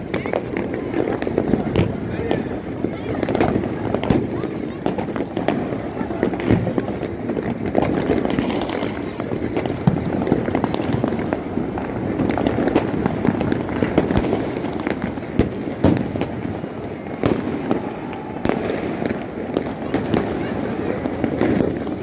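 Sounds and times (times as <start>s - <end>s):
distant firework bangs: 0.0s - 22.0s
firecrackers crackling: 0.0s - 22.0s.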